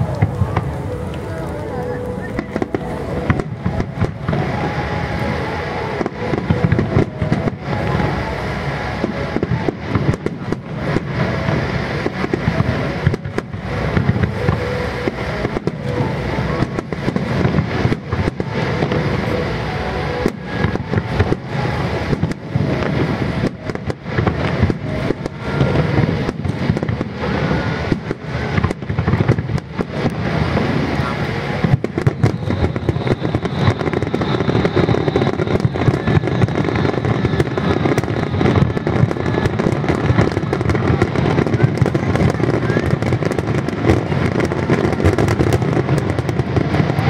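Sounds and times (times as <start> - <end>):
fireworks bangs: 0.0 - 47.0.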